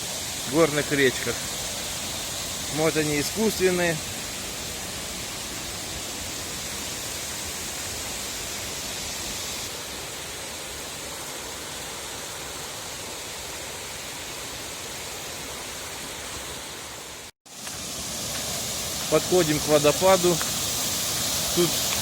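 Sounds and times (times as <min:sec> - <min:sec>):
river rushing over rapids: 0:00.0 - 0:22.0.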